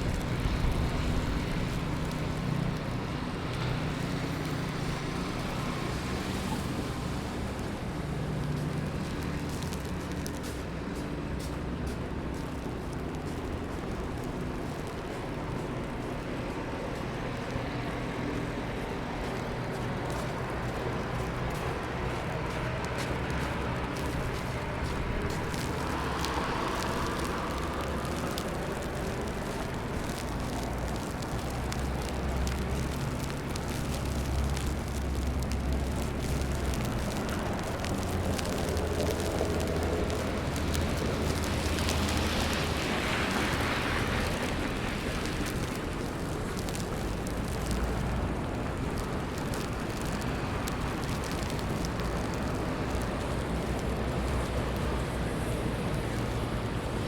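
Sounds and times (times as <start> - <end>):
hiss of snow and wet streets: 0.0 - 57.0
low rumble of traffic: 0.0 - 57.0.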